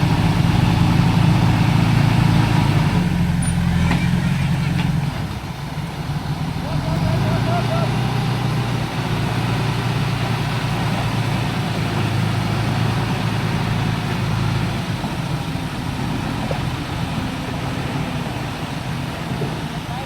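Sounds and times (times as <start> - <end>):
diesel machine engine hum: 0.0 - 20.0.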